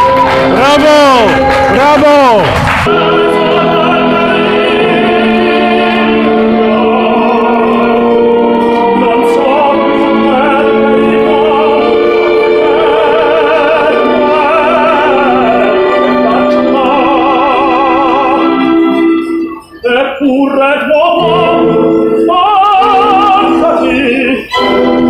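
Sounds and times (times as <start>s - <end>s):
man singing opera: 0.0s - 25.0s.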